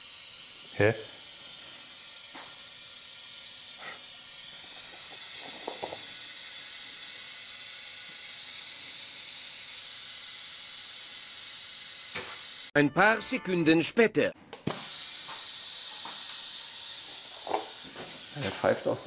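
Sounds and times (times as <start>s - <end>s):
compressed air hissing: 0.0s - 12.7s, 14.7s - 19.0s.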